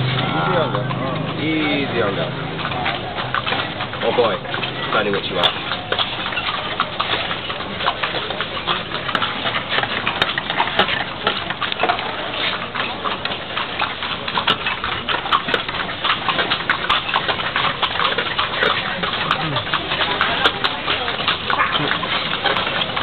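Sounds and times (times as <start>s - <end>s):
hooves clip-clopping on pavement: 0.0s - 23.0s.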